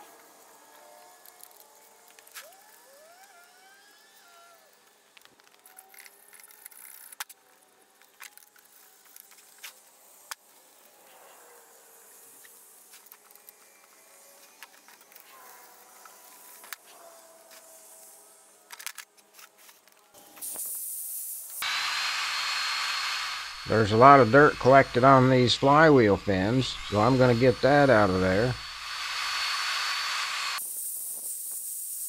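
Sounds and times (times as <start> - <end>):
rotary tool high whine: 0.0 - 32.0
thin buzzing: 5.6 - 32.0.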